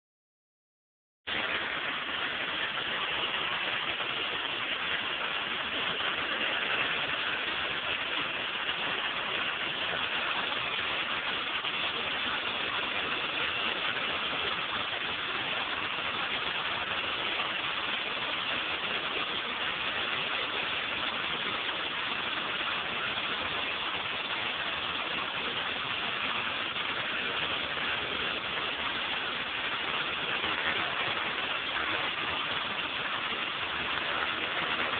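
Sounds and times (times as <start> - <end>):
pressure washer spraying concrete: 1.3 - 34.9.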